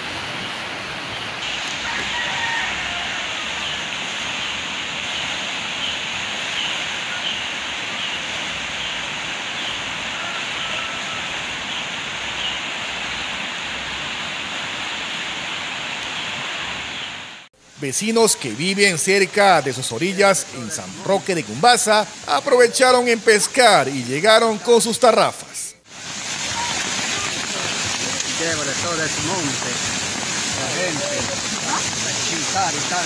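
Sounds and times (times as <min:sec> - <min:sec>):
river rushing: 0:00.0 - 0:33.0.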